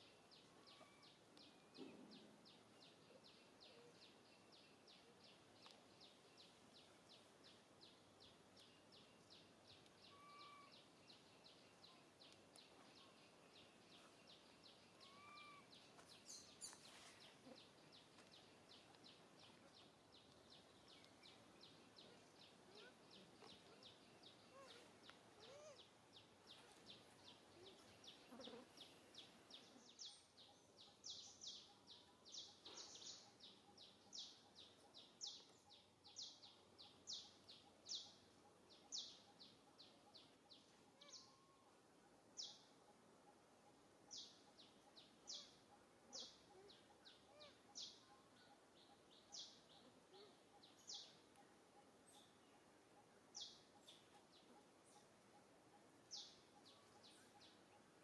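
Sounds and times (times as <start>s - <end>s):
bird chirping: 0.0s - 58.0s
faint outdoor background noise: 0.0s - 58.0s.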